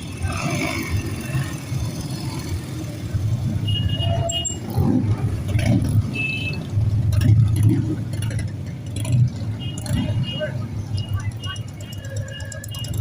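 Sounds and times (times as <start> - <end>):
motorbike engines rumbling: 0.0 - 13.0.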